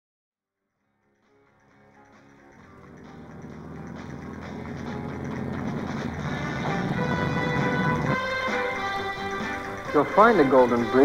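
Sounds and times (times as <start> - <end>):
music: 0.4 - 11.0.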